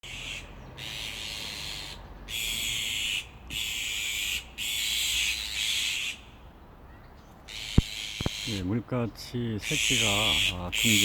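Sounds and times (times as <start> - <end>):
magpies rasping calls: 0.0 - 11.0.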